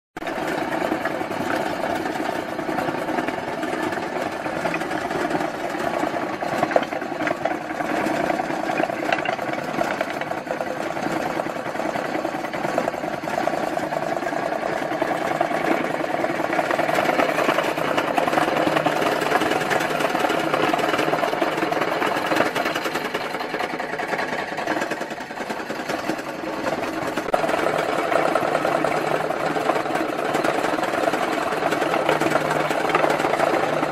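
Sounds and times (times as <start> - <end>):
flywheel turning: 0.3 - 33.9.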